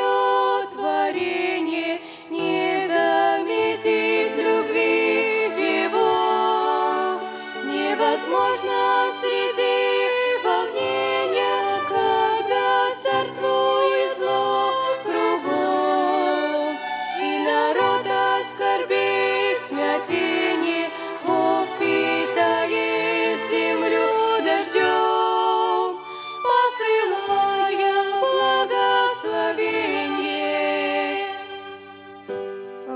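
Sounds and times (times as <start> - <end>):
violin ensemble playing bowed chords: 3.5 - 32.9.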